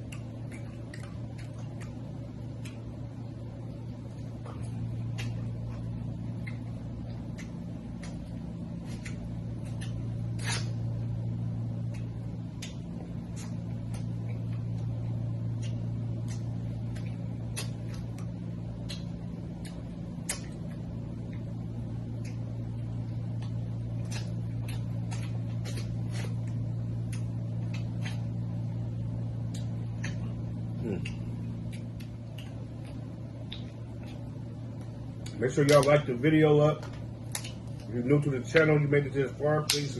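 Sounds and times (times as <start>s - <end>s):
chewing: 0.0s - 36.1s, 36.7s - 38.6s
steady low hum: 0.0s - 39.9s.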